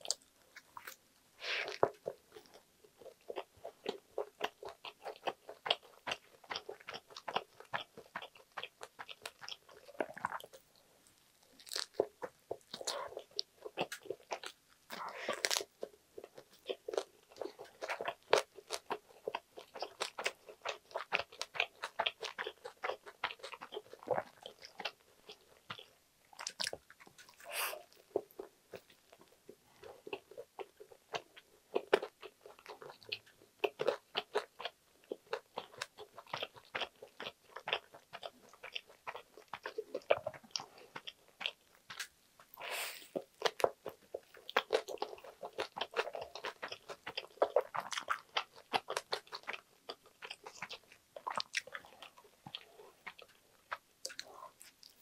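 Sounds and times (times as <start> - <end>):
crunchy chewing of toast: 0.0 - 55.0.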